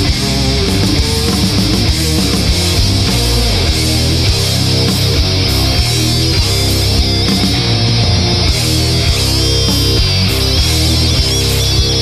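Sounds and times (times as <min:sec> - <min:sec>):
sharp hits: 0:00.0 - 0:11.9
heavy metal guitar riff: 0:00.0 - 0:12.0.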